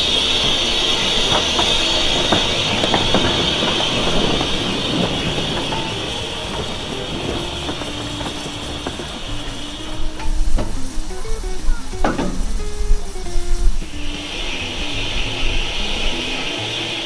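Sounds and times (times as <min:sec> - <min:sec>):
clicks and knocks: 0:00.0 - 0:14.2
train steam hiss: 0:00.0 - 0:17.0.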